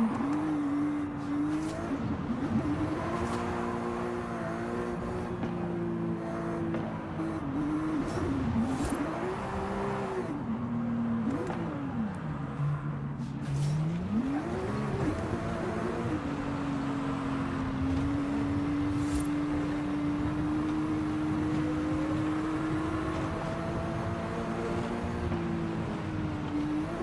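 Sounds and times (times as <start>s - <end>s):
sports car engine revving: 0.0s - 27.0s.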